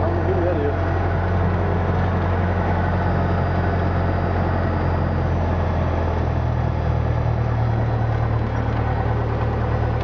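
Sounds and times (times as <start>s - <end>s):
light aircraft engine and propeller: 0.0s - 10.0s.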